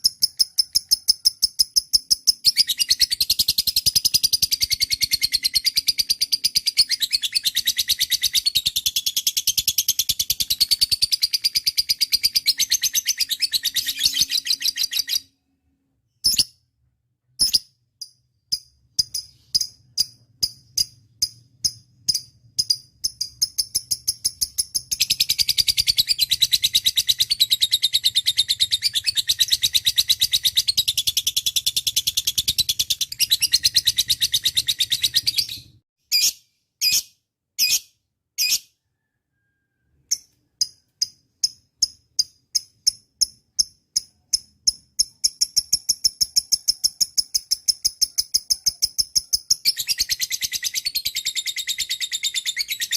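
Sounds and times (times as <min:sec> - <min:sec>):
lovebird chirping and trilling: 0:00.0 - 0:15.5, 0:16.1 - 0:16.6, 0:17.3 - 0:52.9.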